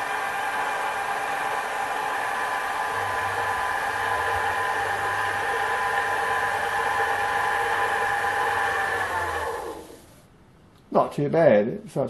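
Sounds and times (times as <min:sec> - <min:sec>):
metal lathe whine: 0:00.0 - 0:10.2.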